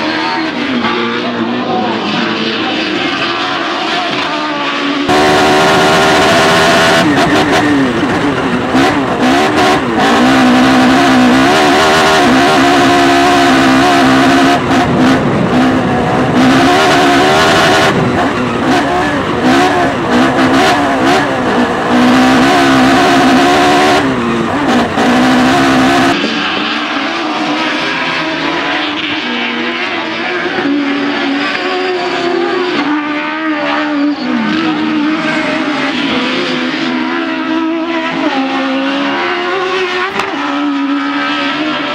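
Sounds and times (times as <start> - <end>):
buggy engine revving: 0.0 - 41.9
several buggy engines racing: 0.0 - 41.9.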